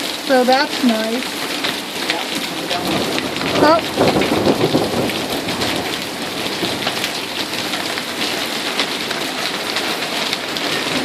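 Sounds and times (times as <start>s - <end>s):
rain falling steadily: 0.0s - 11.0s.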